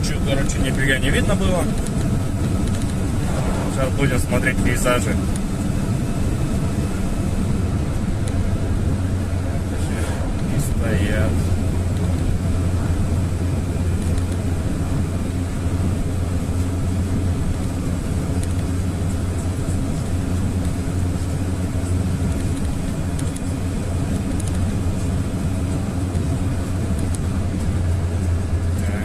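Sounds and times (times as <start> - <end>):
road noise: 0.0 - 29.0
van engine drone: 0.0 - 29.0.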